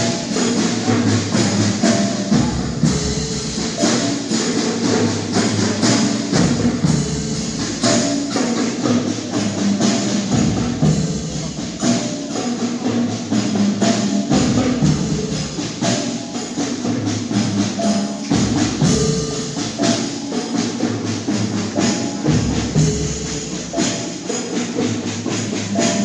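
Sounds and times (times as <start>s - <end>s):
drums and small cymbals: 0.0s - 26.0s
marching band music: 0.0s - 26.0s.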